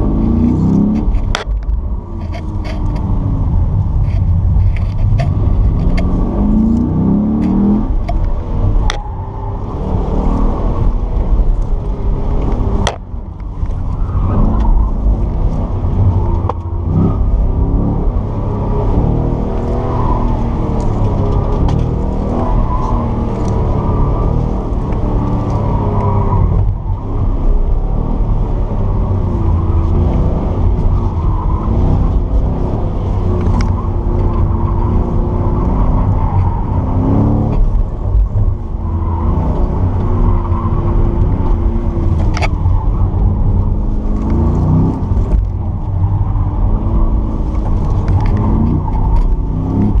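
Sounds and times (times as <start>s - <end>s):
car engine revving: 0.0s - 50.0s
engine and road rumble: 0.0s - 50.0s.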